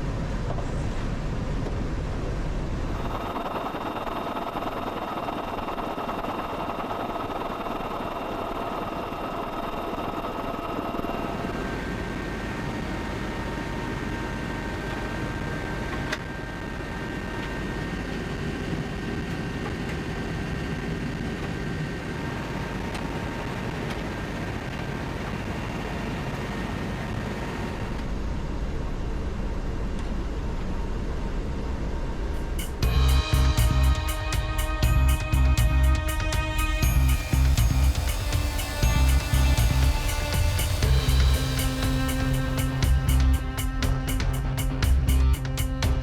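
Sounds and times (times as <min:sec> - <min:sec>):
machine running with whining tones: 0:01.3 - 0:46.0.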